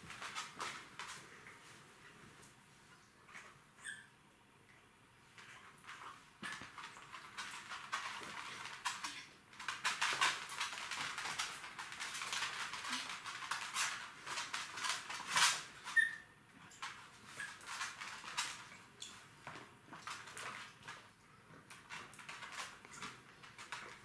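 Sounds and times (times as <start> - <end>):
dog claws scrabbling on floor: 0.0 - 1.7, 5.4 - 16.0, 16.6 - 24.0.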